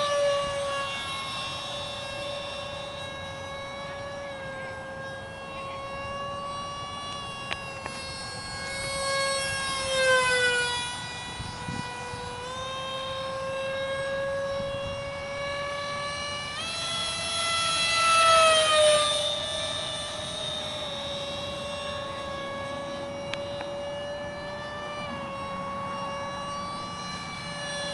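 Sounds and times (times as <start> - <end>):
electric jet model whine: 0.0 - 27.9.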